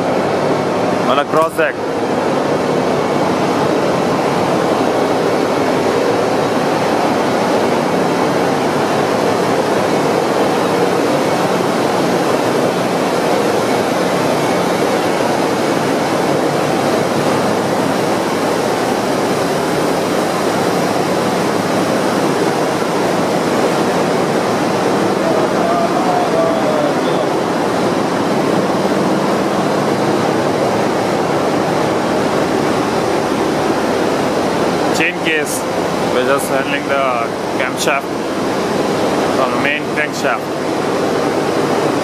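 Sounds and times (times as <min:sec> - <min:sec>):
engine room machinery noise: 0:00.0 - 0:42.0.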